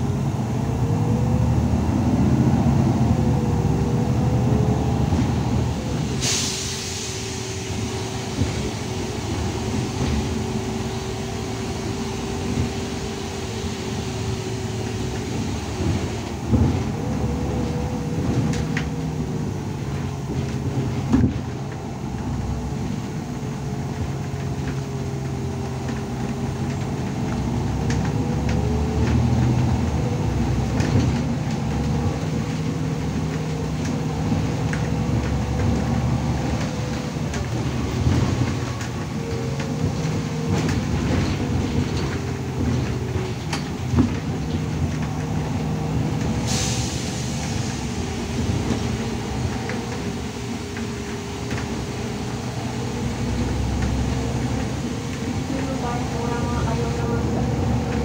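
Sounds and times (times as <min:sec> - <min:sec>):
bus engine hum with whine: 0:00.0 - 0:58.0.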